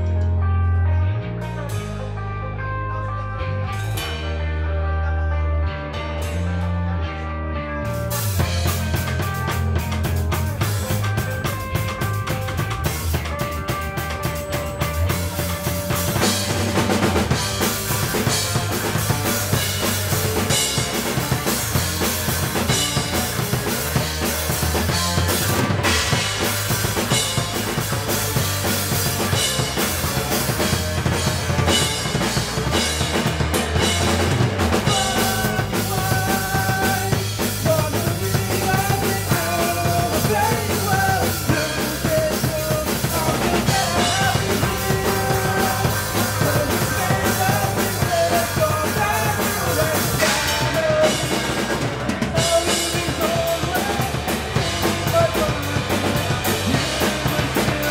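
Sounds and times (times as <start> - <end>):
melodic lead line: 0.0 - 57.9
rock band playing: 0.0 - 57.9.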